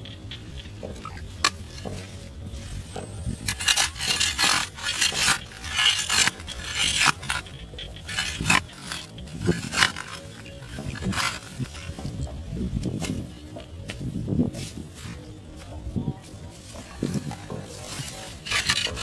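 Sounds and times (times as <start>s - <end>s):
hand spade scraping soil: 0.0s - 15.3s, 16.5s - 19.0s
hand scooping loose earth: 0.9s - 15.4s, 16.5s - 19.0s.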